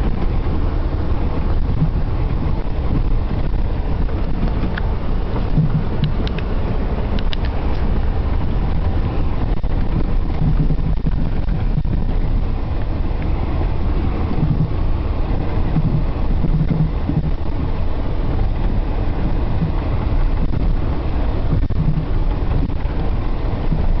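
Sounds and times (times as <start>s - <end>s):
truck rumbling on gravel: 0.0s - 24.0s.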